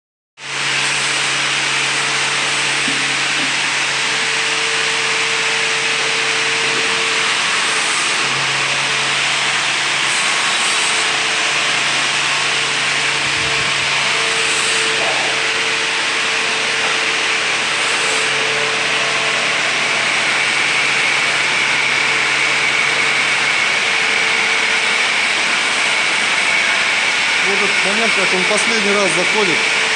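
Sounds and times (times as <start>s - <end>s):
machine motor hum: 0.5s - 29.9s.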